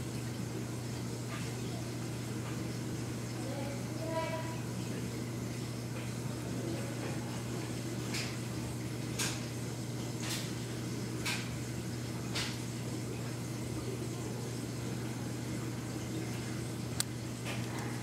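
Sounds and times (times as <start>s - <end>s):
aquarium equipment hum: 0.0s - 18.0s.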